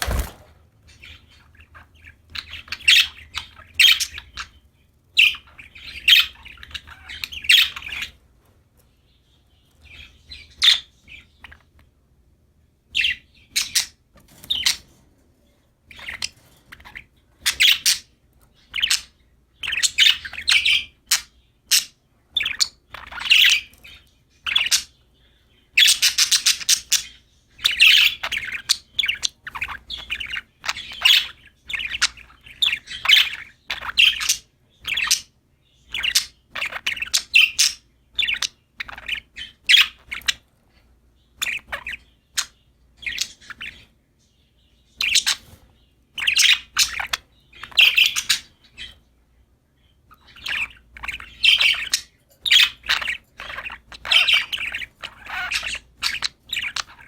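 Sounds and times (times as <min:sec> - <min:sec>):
budgerigars chirping: 0:00.0 - 0:12.1, 0:12.8 - 0:57.0.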